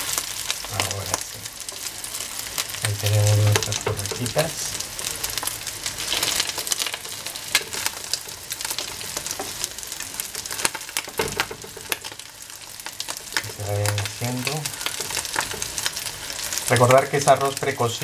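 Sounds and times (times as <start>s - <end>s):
fritters sizzling in hot oil: 0.0s - 18.0s.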